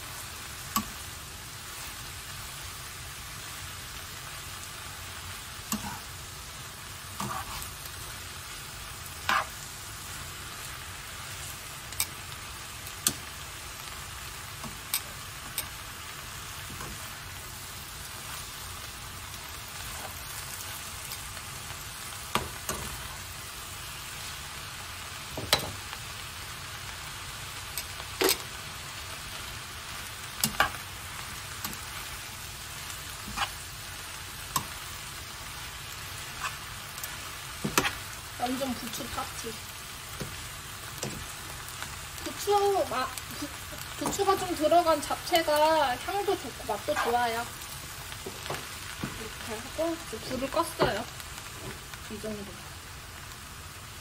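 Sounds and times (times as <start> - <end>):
vegetables sizzling in a pan: 0.0 - 54.0.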